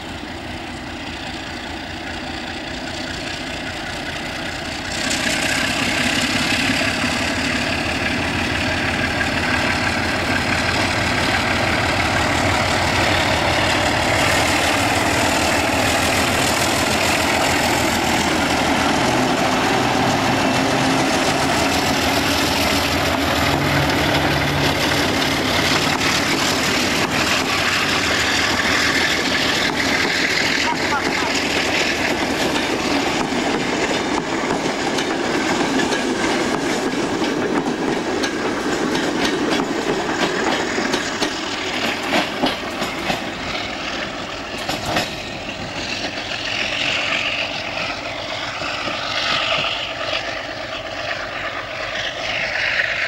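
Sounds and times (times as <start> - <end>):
locomotive diesel engine working: 0.0 - 53.0.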